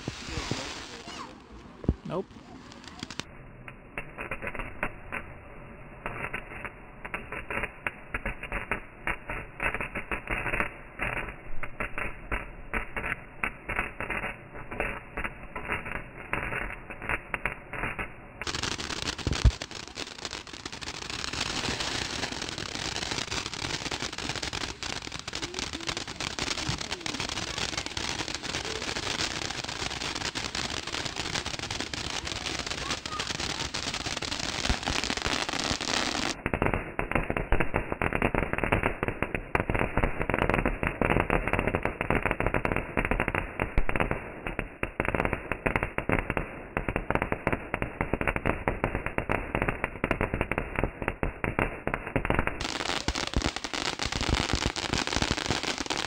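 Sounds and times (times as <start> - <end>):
firework crackling: 0.0 - 56.0.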